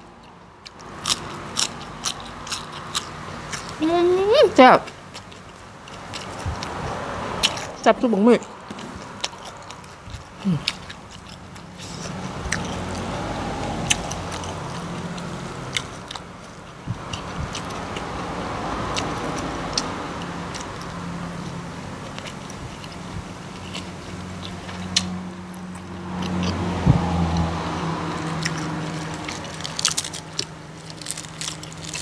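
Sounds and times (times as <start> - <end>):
vehicle engine low hum: 0.0 - 32.0
close-up chewing: 0.1 - 3.8, 4.9 - 7.8, 8.7 - 18.1, 18.8 - 32.0.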